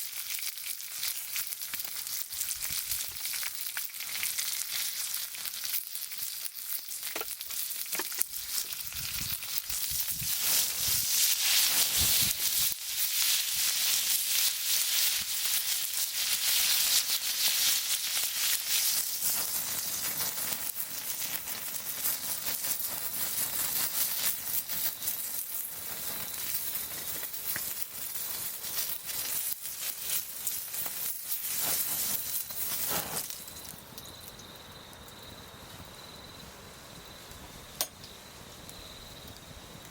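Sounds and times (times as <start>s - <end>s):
meat sizzling over campfire: 0.0s - 39.9s
high insect trill: 6.9s - 39.9s.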